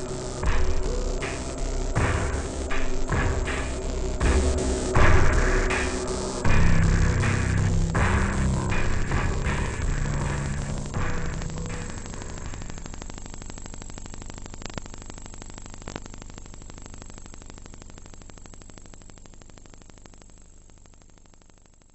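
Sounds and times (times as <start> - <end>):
crackling static: 0.0 - 21.9.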